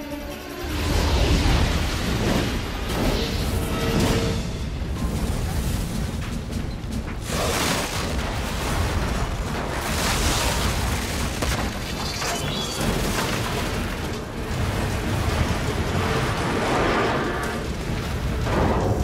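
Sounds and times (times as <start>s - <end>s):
film music score: 0.0s - 19.0s
explosion rumble and blasts: 0.6s - 19.0s.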